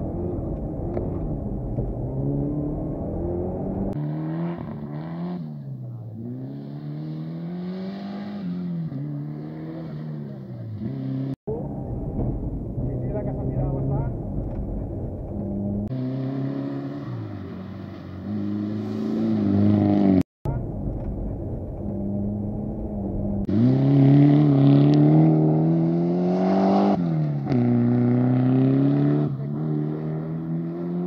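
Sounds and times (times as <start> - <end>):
car engine revving hard: 0.0 - 11.4, 15.4 - 20.2, 22.0 - 31.0.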